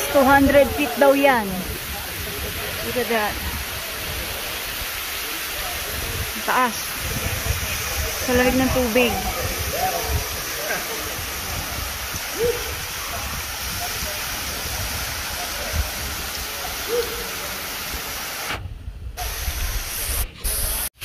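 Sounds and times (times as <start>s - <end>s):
waterfall splashing onto rock: 0.0s - 18.6s.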